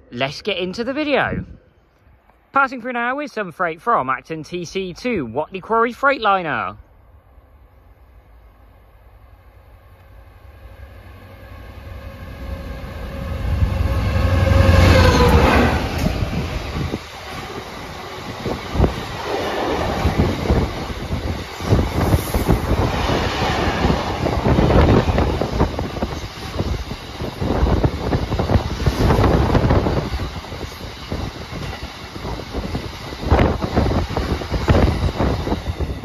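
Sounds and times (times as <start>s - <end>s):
diesel locomotive passing: 6.8s - 36.0s.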